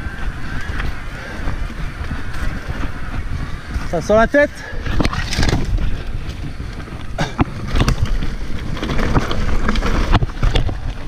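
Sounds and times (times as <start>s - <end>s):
bike knocks and rattles: 0.0s - 11.0s
wind buffeting microphone: 0.0s - 11.0s.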